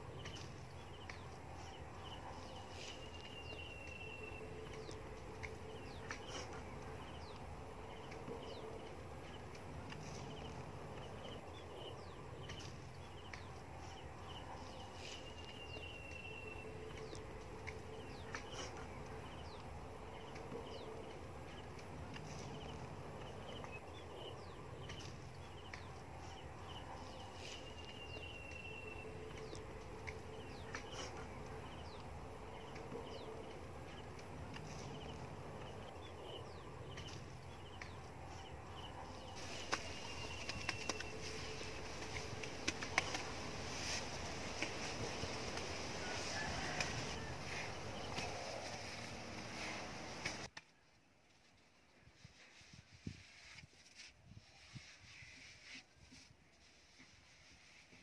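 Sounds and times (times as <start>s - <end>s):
outdoor hiss and hum: 0.0s - 58.0s.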